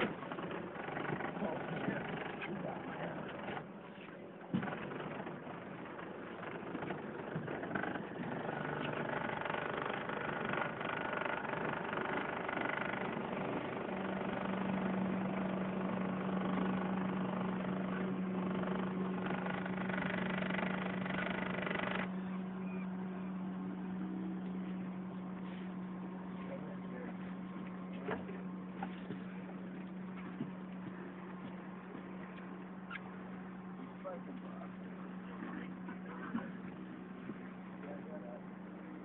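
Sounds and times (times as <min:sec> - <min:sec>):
outboard motor running: 0:00.0 - 0:39.0
steady low hum: 0:00.0 - 0:39.0
water noise: 0:00.0 - 0:39.0.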